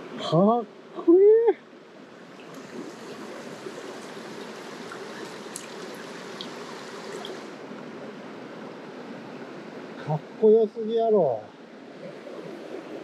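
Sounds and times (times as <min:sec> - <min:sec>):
mountain stream running: 0:00.0 - 0:13.0.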